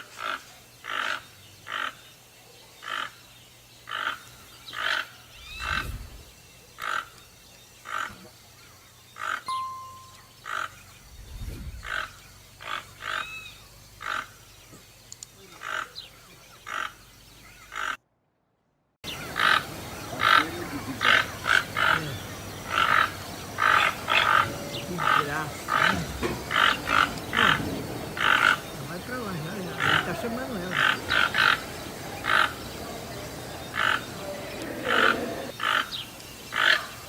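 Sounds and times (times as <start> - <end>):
toucans calling: 0.0 - 18.0, 19.0 - 37.0.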